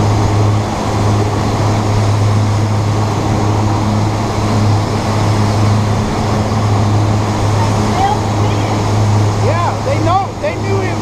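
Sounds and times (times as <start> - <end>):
boat motor droning: 0.0 - 11.0
wake water rushing: 0.0 - 11.0.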